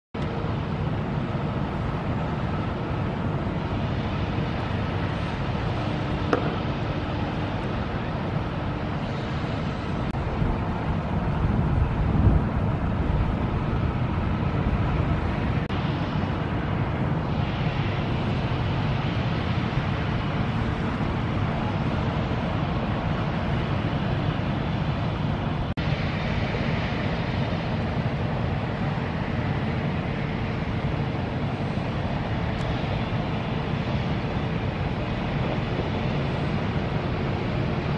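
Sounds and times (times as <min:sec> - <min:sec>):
steady low rumble: 0:00.2 - 0:37.9
wind buffeting microphone: 0:00.3 - 0:37.9.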